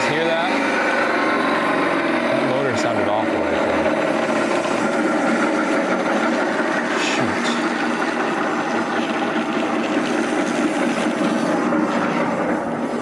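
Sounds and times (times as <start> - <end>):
sawmill mechanical clatter: 0.0 - 13.0.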